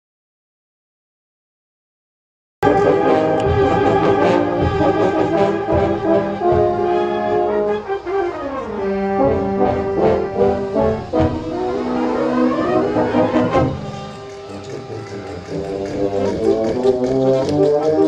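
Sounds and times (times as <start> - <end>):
brass band playing: 2.6 - 18.0.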